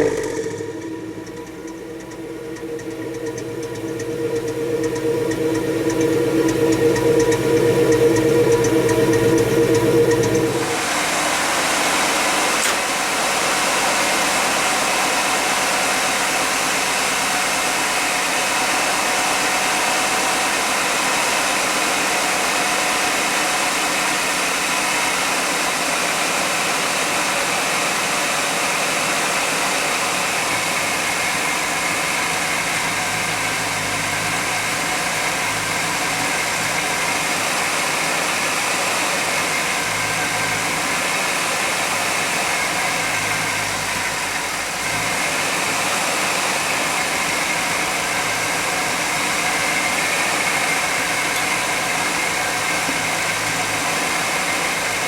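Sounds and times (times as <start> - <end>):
engine idling: 0.0 - 24.4, 30.1 - 55.0.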